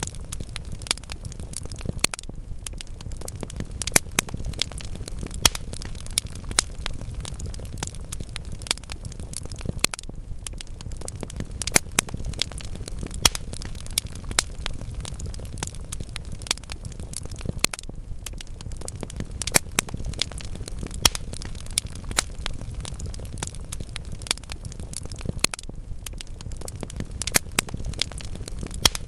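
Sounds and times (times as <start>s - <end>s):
low rumble of flames: 0.0s - 29.0s
wood logs crackling and popping: 0.0s - 29.0s.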